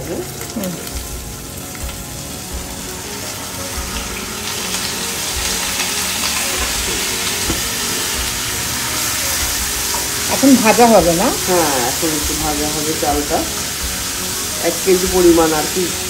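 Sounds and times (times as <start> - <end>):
rice sizzling in hot oil: 0.0 - 16.0.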